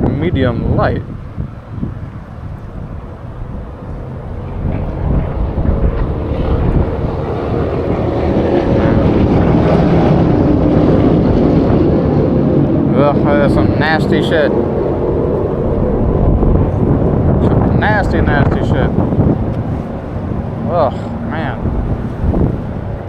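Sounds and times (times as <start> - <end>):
motorboat engine passing: 0.0 - 23.0
wind buffeting microphone: 0.0 - 23.0.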